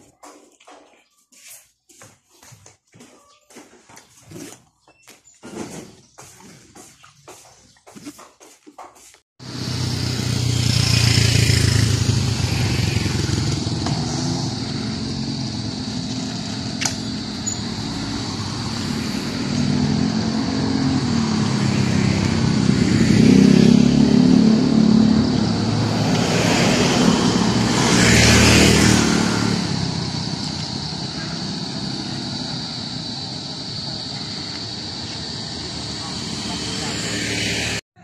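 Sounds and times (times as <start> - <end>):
motorcycle and vehicle engines: 3.9 - 38.0.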